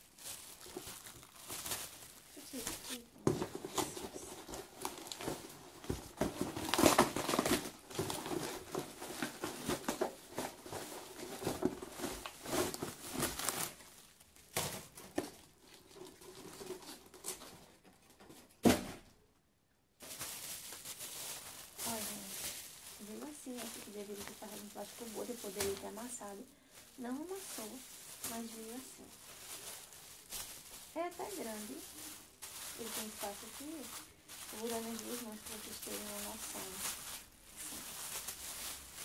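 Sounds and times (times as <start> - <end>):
packaging crinkling and rustling: 0.0 - 18.9, 20.0 - 39.0.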